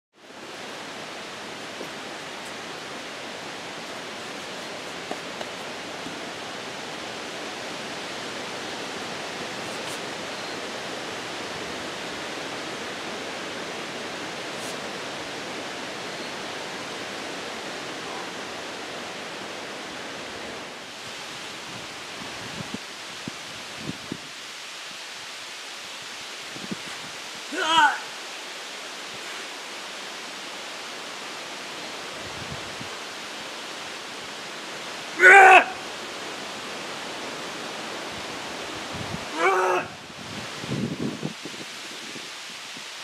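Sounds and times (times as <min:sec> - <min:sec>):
rushing outdoor background noise: 0:00.2 - 0:43.0.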